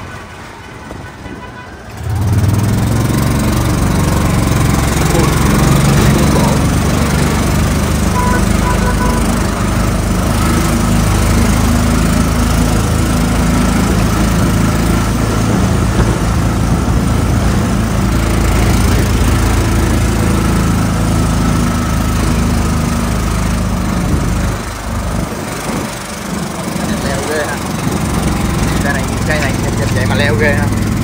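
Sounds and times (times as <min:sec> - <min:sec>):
small vehicle engine running: 0:01.9 - 0:31.0.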